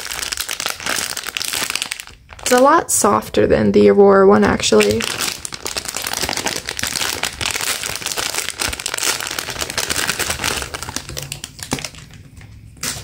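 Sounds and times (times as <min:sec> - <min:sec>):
plastic bag crinkling: 0:00.0 - 0:02.8, 0:04.4 - 0:13.0.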